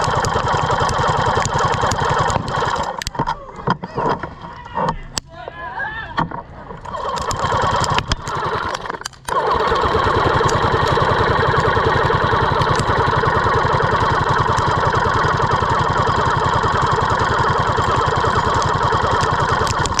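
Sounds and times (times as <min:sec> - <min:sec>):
electric motor whining: 0:00.0 - 0:03.2, 0:06.8 - 0:20.0
rapid stream of airsoft shots: 0:00.0 - 0:03.2, 0:06.9 - 0:20.0.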